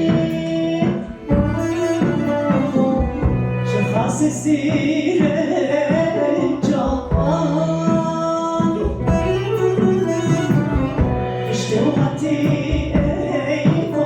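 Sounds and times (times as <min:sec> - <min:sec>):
drum hits: 0:00.0 - 0:14.0
person singing: 0:00.0 - 0:14.0
small band playing: 0:00.0 - 0:14.0.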